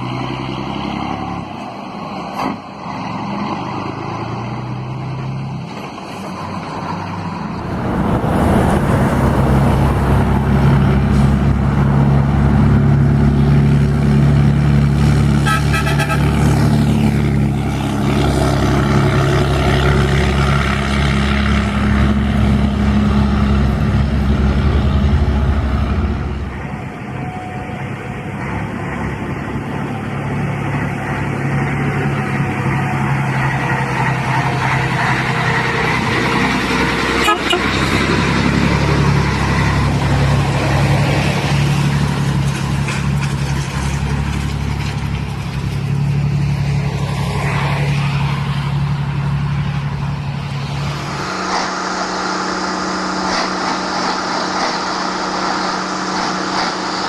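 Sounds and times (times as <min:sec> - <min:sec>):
truck diesel engine running: 0:02.8 - 0:57.0.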